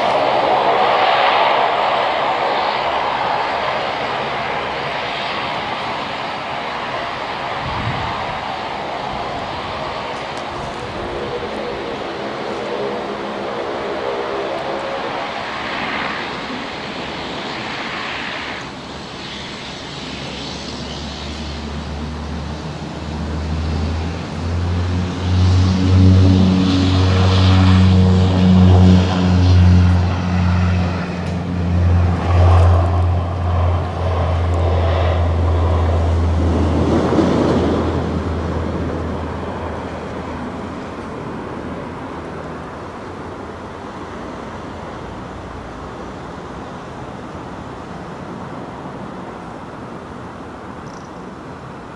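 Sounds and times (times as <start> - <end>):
turboprop engines spooling up: 0.0 - 48.0
low pulsing propeller drone: 0.0 - 51.9.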